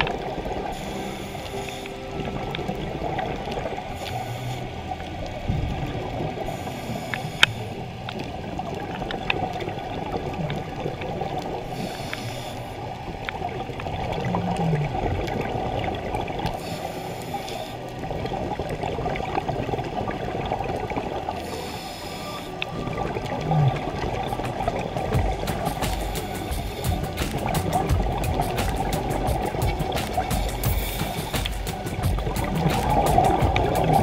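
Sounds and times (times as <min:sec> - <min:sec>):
scuba exhaust bubbles hissing: 0:00.0 - 0:34.0
underwater rush of water: 0:00.0 - 0:34.0.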